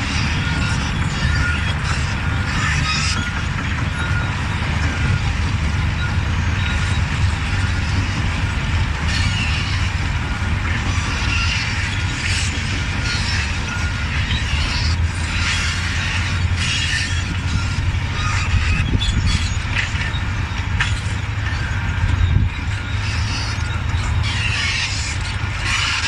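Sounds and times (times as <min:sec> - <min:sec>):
bulldozer diesel engine: 0:00.0 - 0:26.0
high-pitched scraping: 0:00.0 - 0:26.0
steel tracks clanking: 0:00.0 - 0:26.0.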